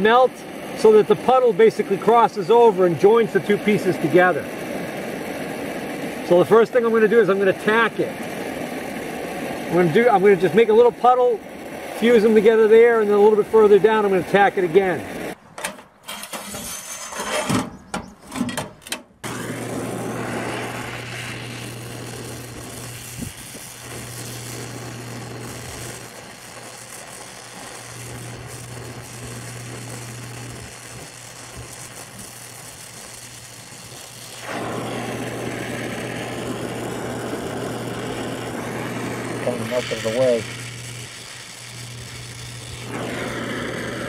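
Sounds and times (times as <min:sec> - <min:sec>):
torch flame hissing: 0:00.0 - 0:15.4, 0:19.2 - 0:44.0.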